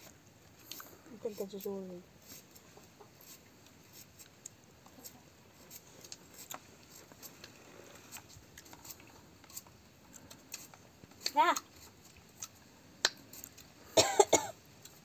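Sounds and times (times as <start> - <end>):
fruit being peeled by hand: 0.0 - 13.8.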